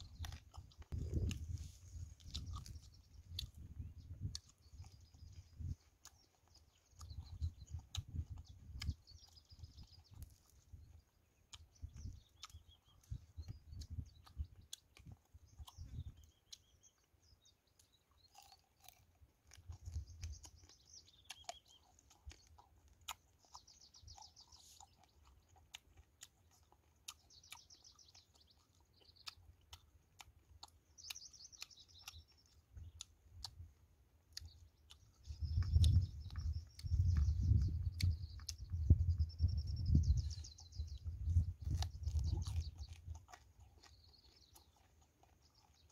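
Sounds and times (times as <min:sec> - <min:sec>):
chewing and crunching food: 0:00.0 - 0:45.9
small birds chirping: 0:00.0 - 0:45.9.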